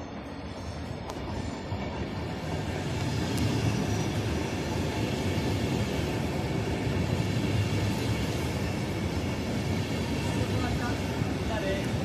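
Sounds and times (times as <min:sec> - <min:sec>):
train wheels rolling on rails: 0:00.0 - 0:12.0.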